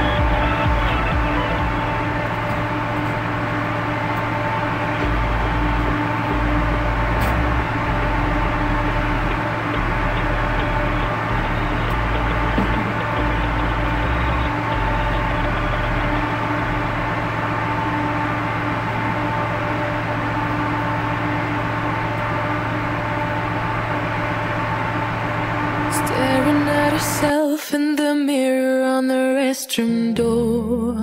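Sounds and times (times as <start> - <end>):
ship's machinery humming: 0.0 - 28.9.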